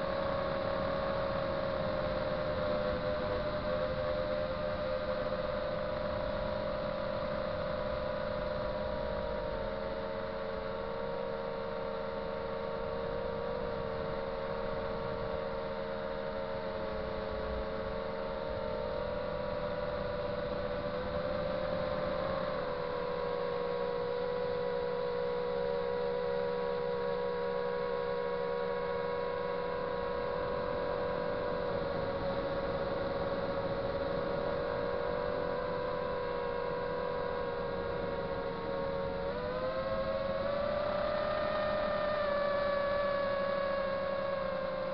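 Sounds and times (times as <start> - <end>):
drone motors whining: 0.0 - 44.9
low rush of wind: 0.0 - 44.9.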